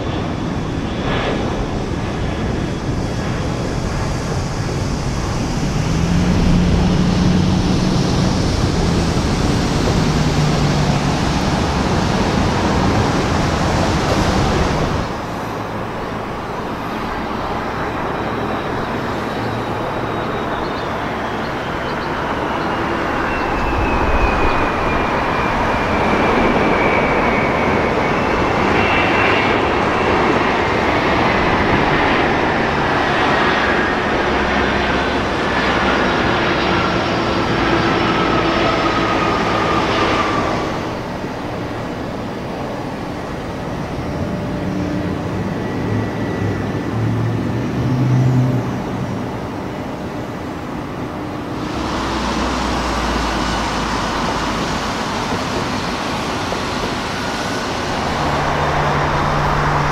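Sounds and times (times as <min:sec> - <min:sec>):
jet engine roar and whine: 0:00.0 - 0:59.9.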